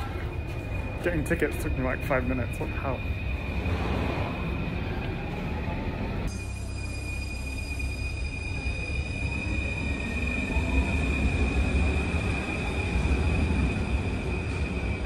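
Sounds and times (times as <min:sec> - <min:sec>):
train rumble: 0:00.0 - 0:15.0
high-pitched squeal: 0:00.2 - 0:15.0.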